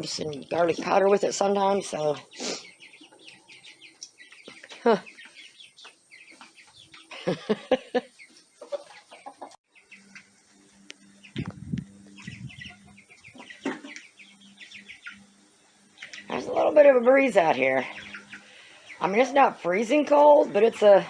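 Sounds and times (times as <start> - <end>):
chickens clucking: 0.0 - 21.0
small birds chirping: 0.0 - 21.0.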